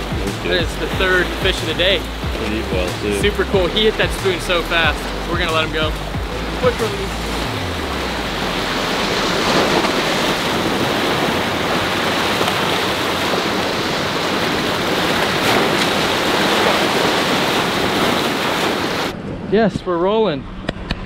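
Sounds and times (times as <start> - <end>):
surf washing over rocks: 0.0 - 19.2.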